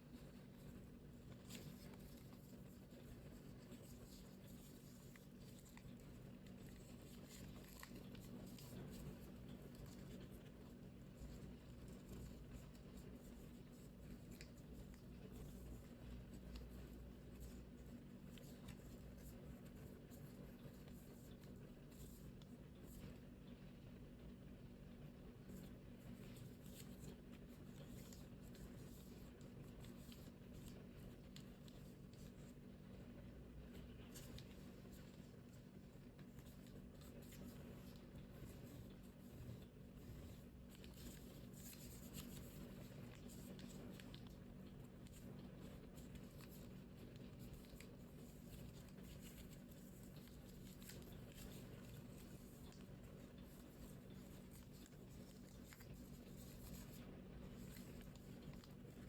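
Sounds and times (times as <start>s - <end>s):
paper rustling and creasing: 0.0s - 23.4s, 25.4s - 59.0s
steady low hum: 0.0s - 59.0s.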